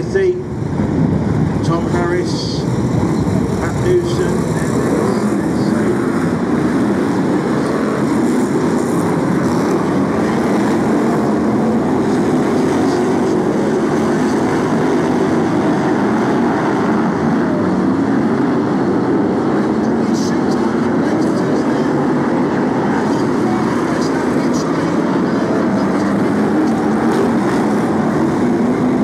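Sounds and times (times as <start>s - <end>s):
racing car engines droning: 0.0s - 29.0s.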